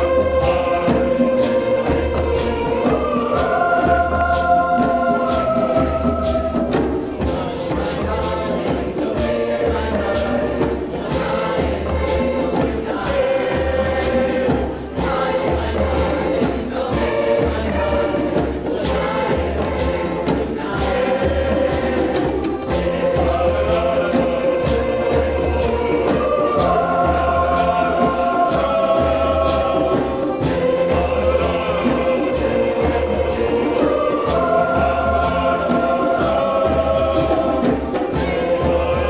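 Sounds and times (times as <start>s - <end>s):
choir singing in harmony: 0.0s - 39.0s.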